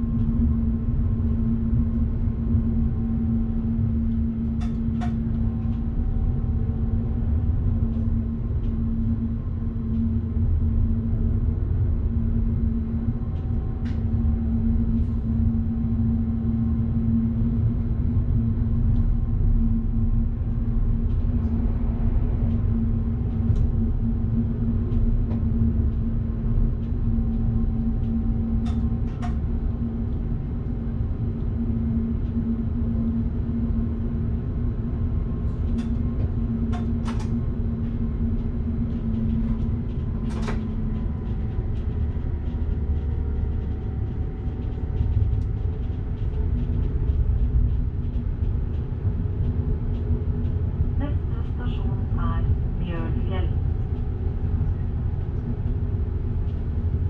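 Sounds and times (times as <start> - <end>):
electric train rumble and hum: 0.0 - 57.0.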